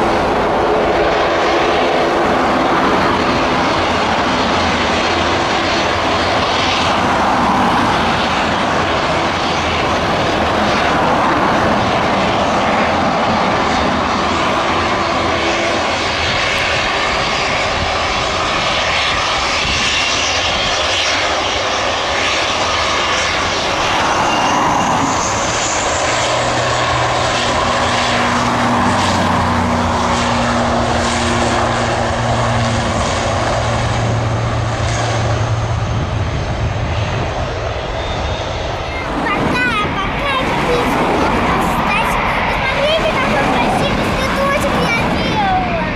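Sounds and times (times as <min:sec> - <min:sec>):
airliner engines roaring: 0:00.0 - 0:45.9.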